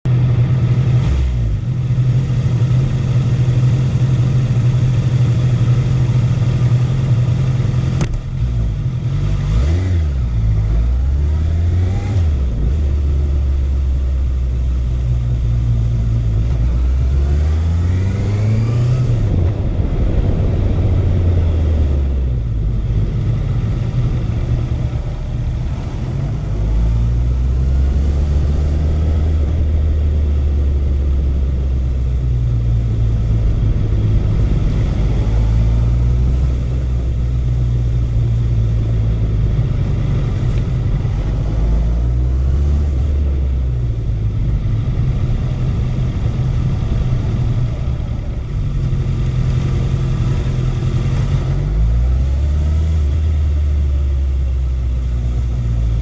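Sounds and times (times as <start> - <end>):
motorcycle engine running: 0.1 - 56.0.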